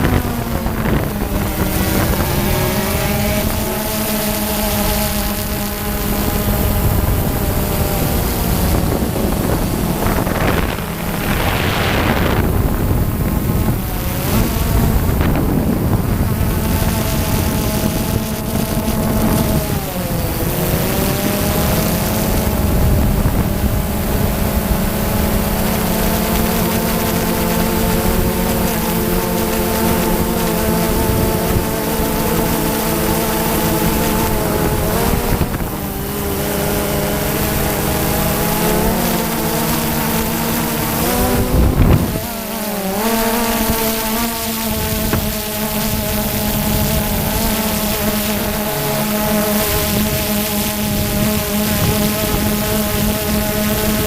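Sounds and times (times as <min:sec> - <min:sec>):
drone propellers whining: 0:00.0 - 0:54.0
wind buffeting microphone: 0:00.0 - 0:54.0.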